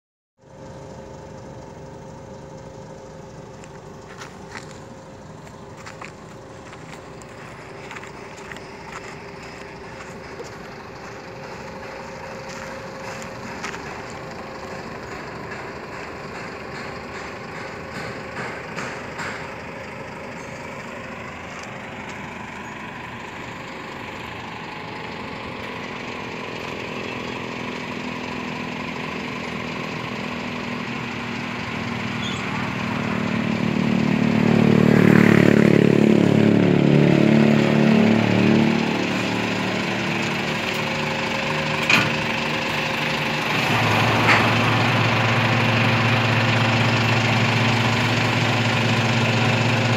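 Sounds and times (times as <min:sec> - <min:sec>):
diesel truck engine running: 0:00.4 - 0:49.9.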